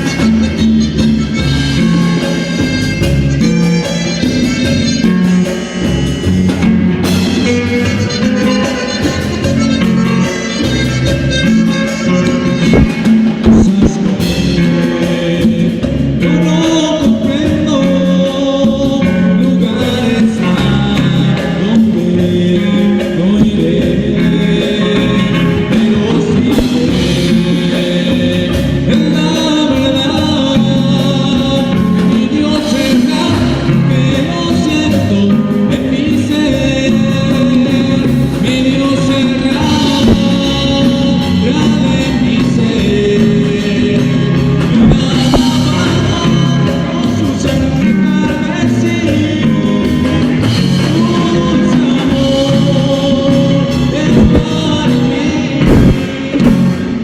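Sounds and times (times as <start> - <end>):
band playing gospel song: 0.0 - 57.0
lead vocal singing: 0.0 - 57.0.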